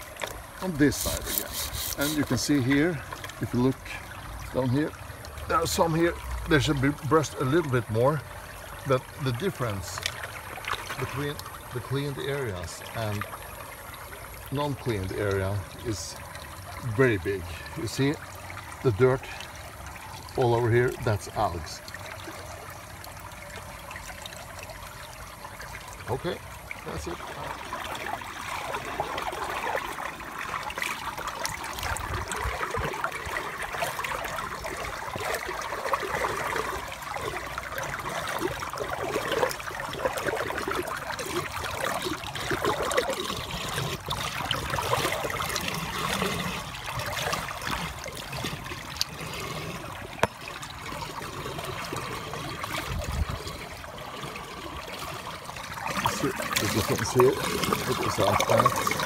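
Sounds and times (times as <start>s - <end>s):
water trickling in gutter: 0.0s - 59.0s.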